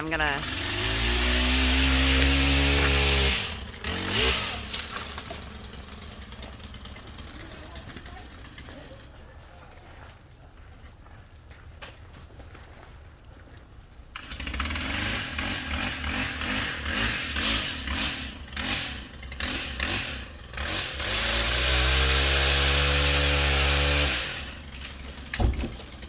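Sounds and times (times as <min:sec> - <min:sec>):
chainsaw revving: 0:00.0 - 0:09.3, 0:14.2 - 0:26.0.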